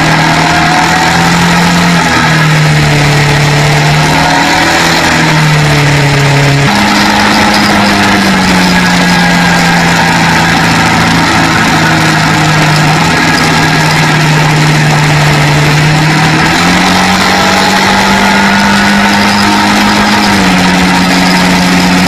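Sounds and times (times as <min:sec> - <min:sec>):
quad bike engine droning: 0:00.0 - 0:22.0
wind and road noise: 0:00.0 - 0:22.0.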